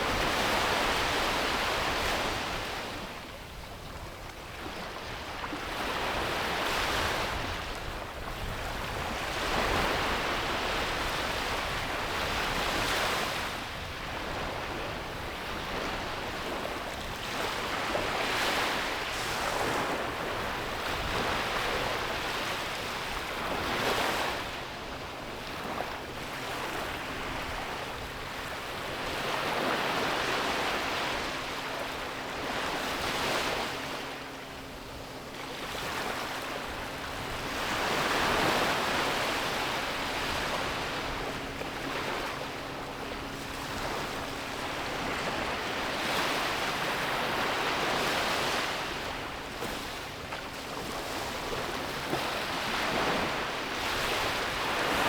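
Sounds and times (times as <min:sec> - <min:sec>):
sea waves breaking on a beach: 0:00.0 - 0:55.0.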